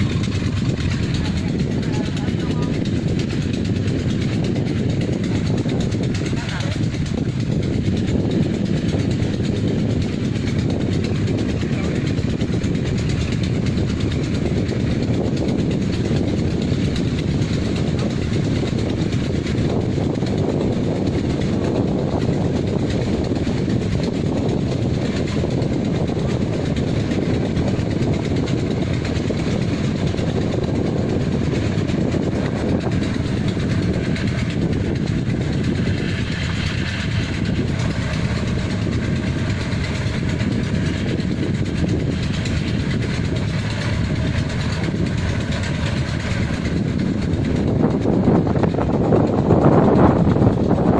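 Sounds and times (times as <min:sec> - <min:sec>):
harvester diesel engine running: 0:00.0 - 0:50.9.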